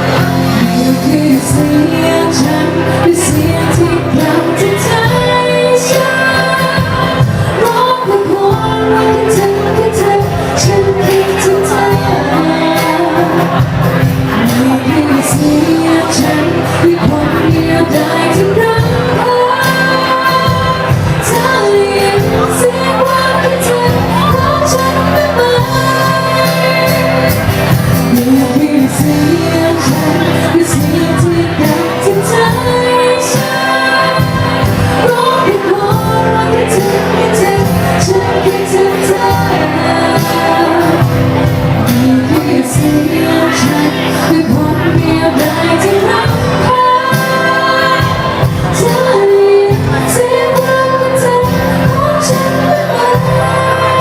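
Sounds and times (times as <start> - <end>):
live pop band playing: 0.0 - 54.0
person singing lead vocal: 0.0 - 54.0.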